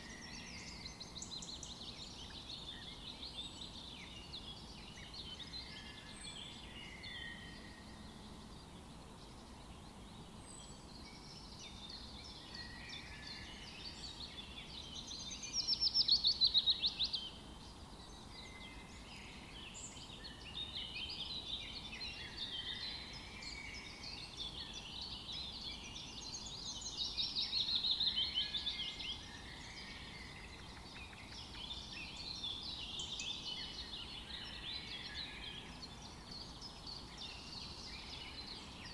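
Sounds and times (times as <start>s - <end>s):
faint steady hiss: 0.0s - 38.9s
songbirds singing and chirping: 0.0s - 38.9s.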